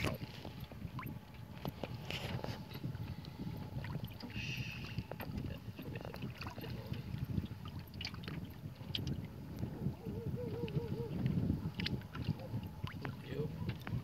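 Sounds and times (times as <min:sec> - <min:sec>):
water lapping against boat hull: 0:00.0 - 0:14.0
wind rumble on microphone: 0:00.0 - 0:14.0.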